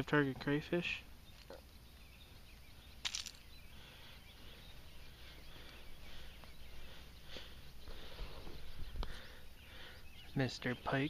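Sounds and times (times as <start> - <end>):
distant birds chirping: 0.0 - 11.0
faint outdoor background noise: 0.0 - 11.0.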